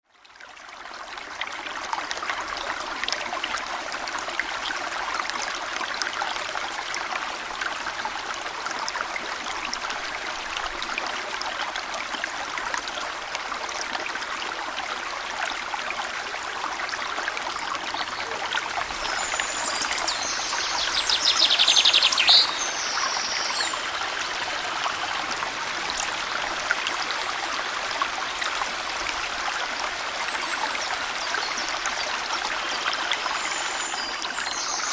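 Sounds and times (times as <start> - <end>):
stream flowing over stones: 0.0 - 34.9.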